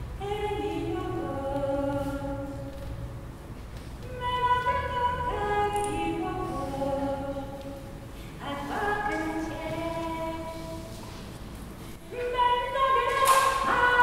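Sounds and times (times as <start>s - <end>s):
voices singing a cappella: 0.2s - 2.8s, 4.1s - 11.0s, 12.1s - 14.0s.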